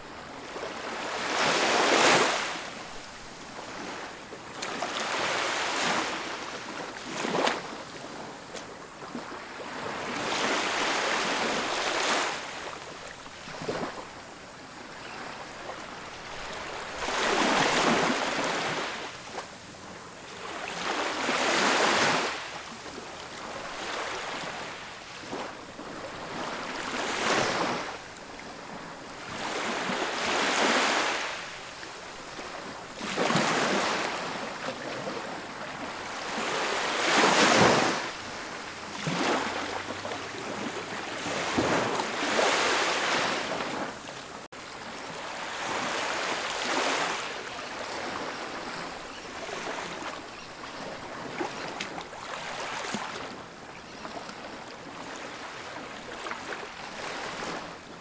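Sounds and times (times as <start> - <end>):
waves crashing: 0.0 - 19.4, 20.2 - 53.6
ocean waves washing up beach: 0.0 - 58.0.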